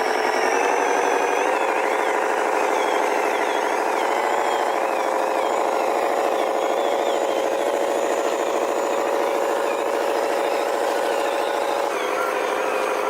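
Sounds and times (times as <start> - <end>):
toy electric motor whining: 0.0 - 13.0.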